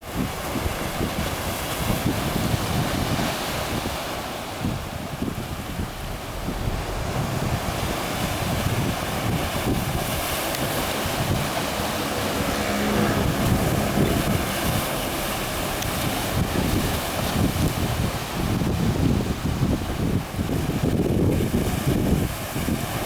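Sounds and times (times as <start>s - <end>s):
sea surf washing on concrete: 0.0s - 23.0s
wind buffeting microphone: 0.0s - 23.0s.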